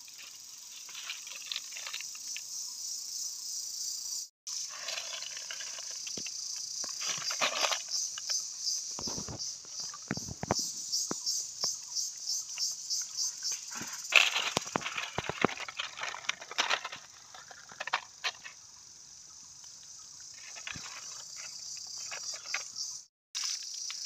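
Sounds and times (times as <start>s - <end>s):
high insect trill: 0.0s - 24.0s.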